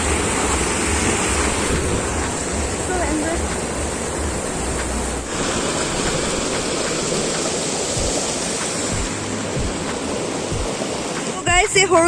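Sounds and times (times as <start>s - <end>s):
waterfall stream rushing: 0.0s - 12.0s.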